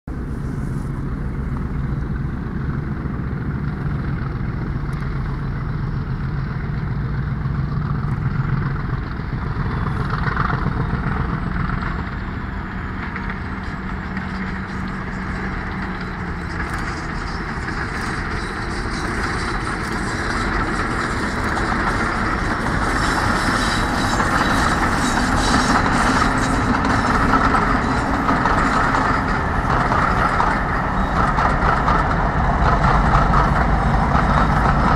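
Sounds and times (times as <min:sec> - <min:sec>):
diesel locomotive engines droning: 0:00.1 - 0:34.9.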